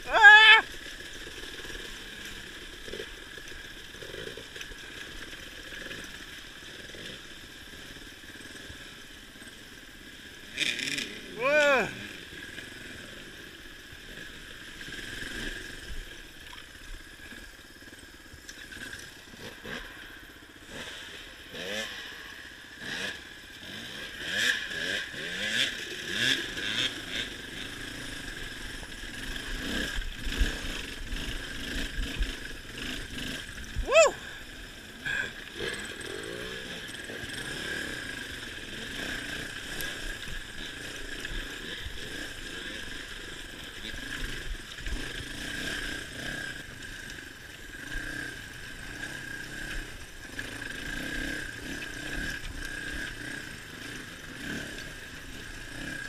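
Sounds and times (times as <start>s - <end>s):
motorcycle engine revving: 0.0s - 16.4s, 17.0s - 56.0s.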